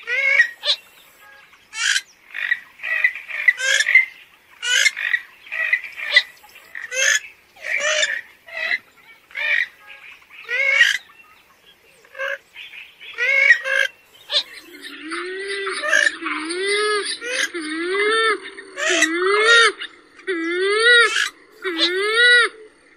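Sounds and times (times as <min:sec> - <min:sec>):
rail bird calling: 0:00.0 - 0:22.9.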